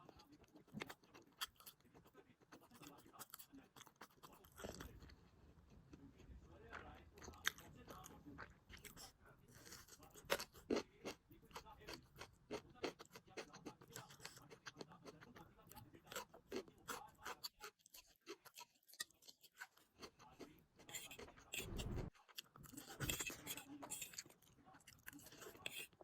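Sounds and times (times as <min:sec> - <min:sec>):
person chewing noodles: 0:00.0 - 0:06.1, 0:06.7 - 0:26.0.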